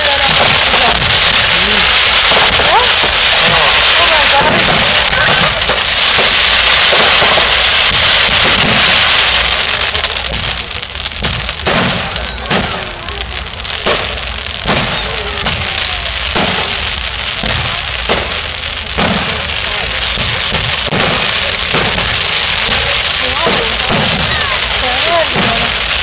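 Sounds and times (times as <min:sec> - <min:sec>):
fireworks bangs: 0:00.0 - 0:26.0
fireworks crackling hiss: 0:00.0 - 0:26.0.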